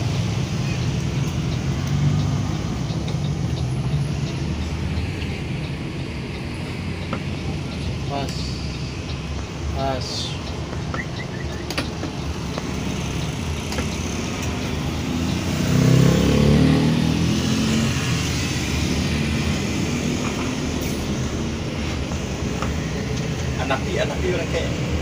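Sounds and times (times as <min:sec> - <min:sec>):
bus engine and road noise: 0:00.0 - 0:25.0.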